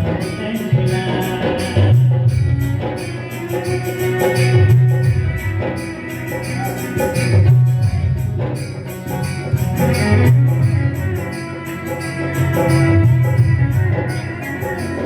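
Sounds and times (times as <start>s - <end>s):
jingling percussion: 0.0s - 15.0s
sustained melody line: 0.0s - 15.0s.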